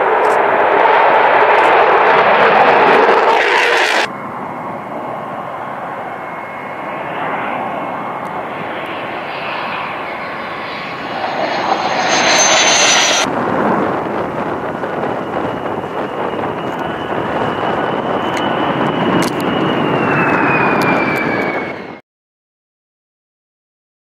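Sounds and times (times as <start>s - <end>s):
fighter jet engine roar: 0.0s - 22.0s
thin high jet whine: 0.0s - 22.0s.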